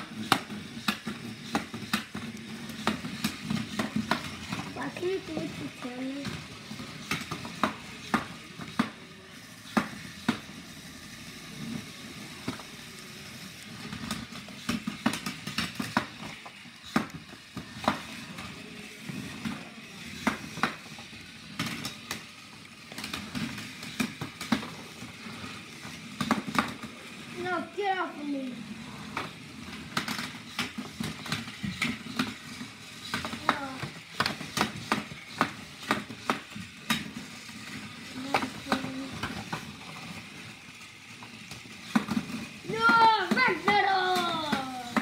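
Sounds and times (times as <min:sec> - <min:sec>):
small toy motors running: 0:00.0 - 0:45.0.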